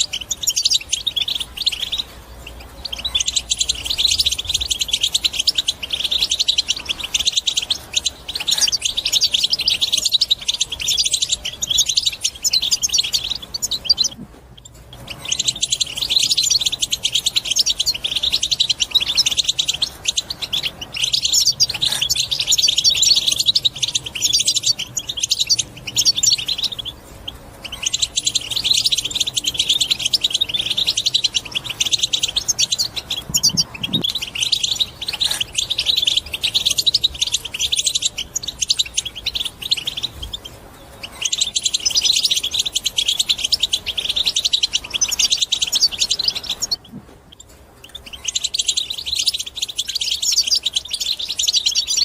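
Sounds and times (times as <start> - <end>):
bird chattering twitter: 0.0 - 52.0.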